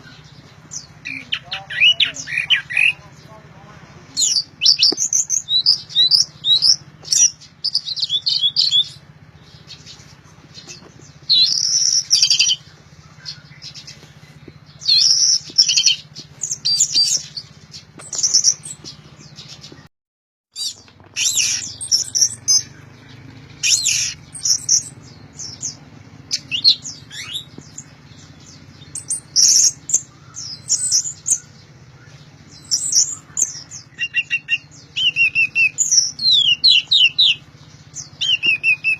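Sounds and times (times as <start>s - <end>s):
thrush singing high chirps: 0.0s - 19.9s, 20.5s - 38.9s.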